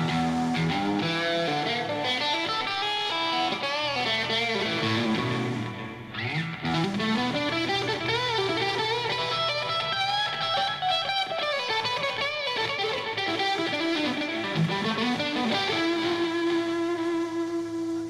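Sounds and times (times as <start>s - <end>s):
electric guitar lead with bends: 0.0s - 18.0s
live band music: 0.0s - 18.0s.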